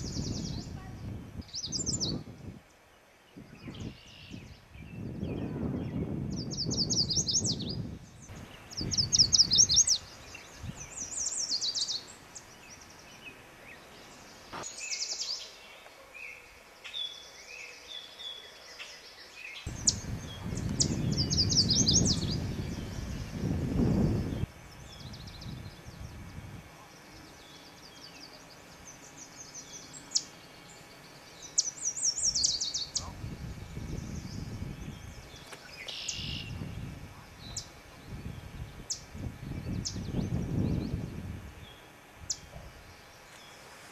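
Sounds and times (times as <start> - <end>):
soft bird calls: 0.0 - 43.9
songbird singing: 0.0 - 43.9.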